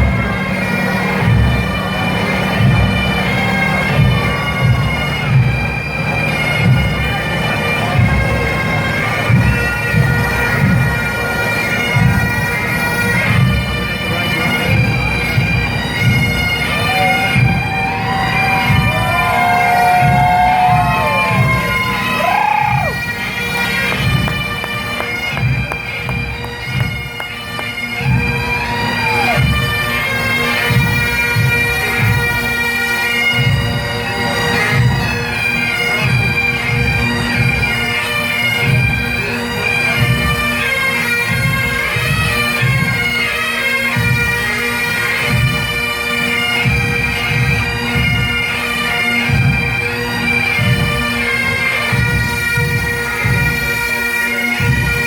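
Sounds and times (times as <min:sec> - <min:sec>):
bagpipe drones and melody: 0:00.0 - 0:55.0
pipe band drumbeat: 0:00.0 - 0:55.0.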